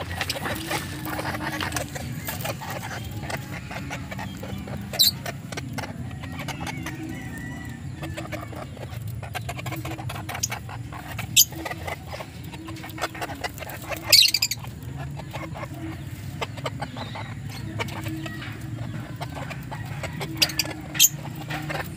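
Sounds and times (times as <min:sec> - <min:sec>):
chickens clucking softly: 0:00.0 - 0:21.9
chickens scratching: 0:00.0 - 0:21.9.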